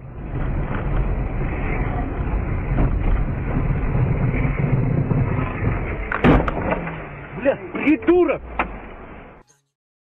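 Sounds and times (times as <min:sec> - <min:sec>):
car engine and tyre rumble: 0:00.0 - 0:09.4
road noise: 0:00.0 - 0:09.5.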